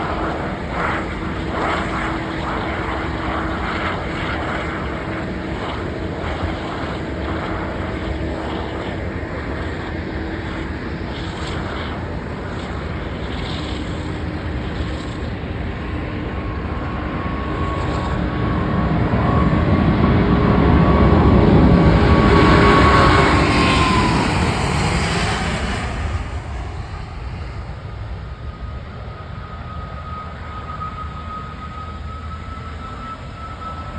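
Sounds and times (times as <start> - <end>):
jet engine rumble with whine: 0.0 - 33.9.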